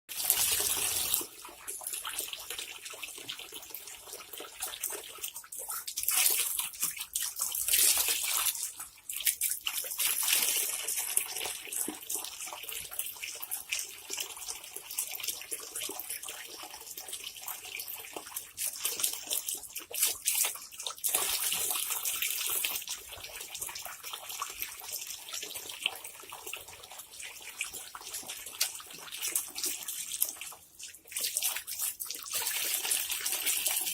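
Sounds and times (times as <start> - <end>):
water running from tap: 0.1 - 33.9.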